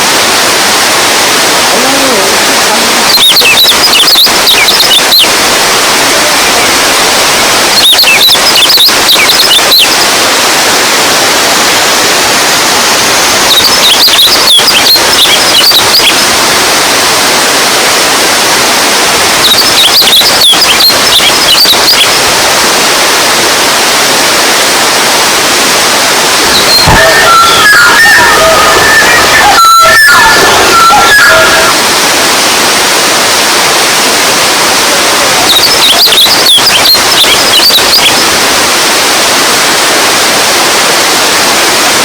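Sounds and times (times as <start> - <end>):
water rushing: 0.0 - 42.0.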